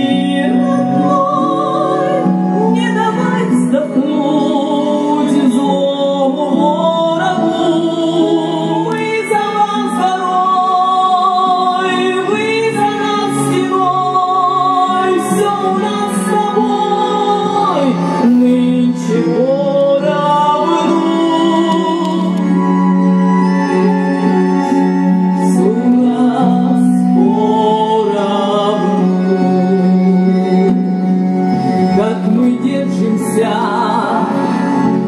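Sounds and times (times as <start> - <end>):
instrumental backing music: 0.0 - 35.0
woman singing into a microphone: 0.0 - 35.0.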